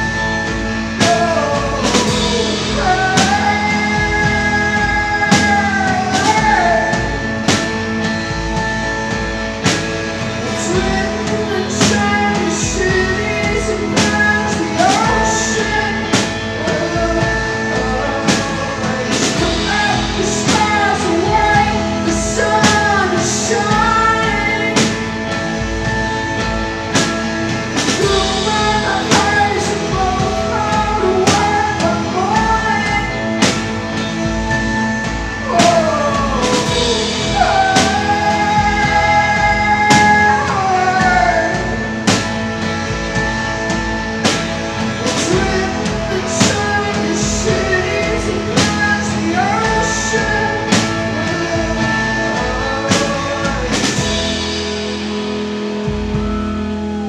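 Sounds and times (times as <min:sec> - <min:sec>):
woman singing: 0:00.0 - 0:09.2, 0:10.2 - 0:54.4
live rock band: 0:00.0 - 0:57.0.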